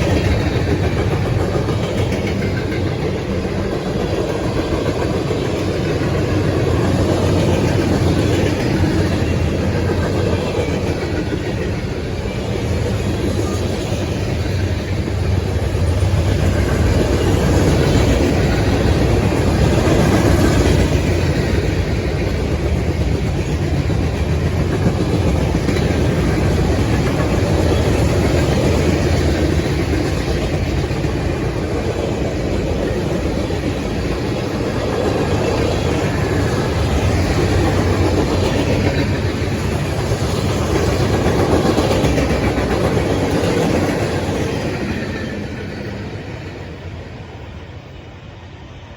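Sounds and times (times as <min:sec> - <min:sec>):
wheels clacking over rail joints: 0:00.0 - 0:46.7
freight train wheels rumbling: 0:00.0 - 0:48.9.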